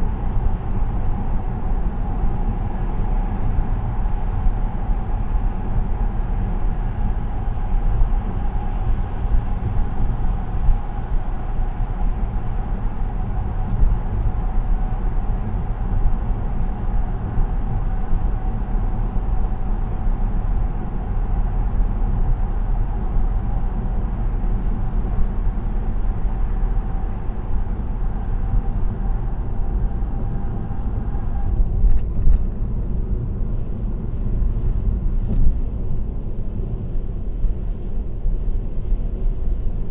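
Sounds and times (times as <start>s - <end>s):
faint steady whine: 0.0s - 39.9s
road and tyre noise: 0.0s - 39.9s.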